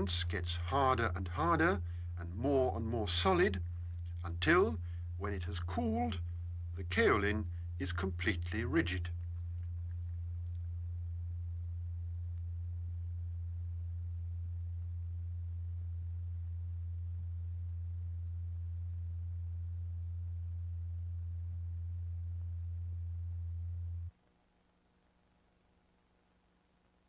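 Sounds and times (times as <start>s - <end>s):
low pure tone: 0.0s - 24.1s.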